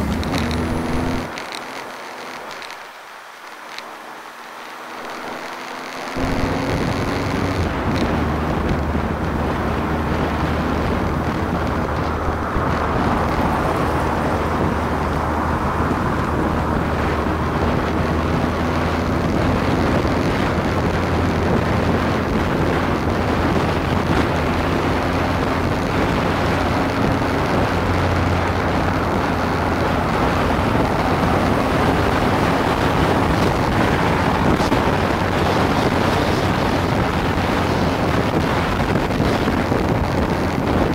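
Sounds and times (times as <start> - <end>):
wind noise on microphone: 0.0 - 1.4, 2.3 - 40.9
motorcycle engine drone: 0.0 - 40.9.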